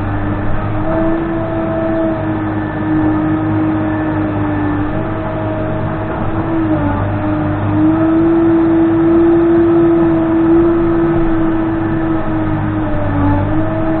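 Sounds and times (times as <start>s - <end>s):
backhoe diesel engine whine: 0.0s - 14.0s.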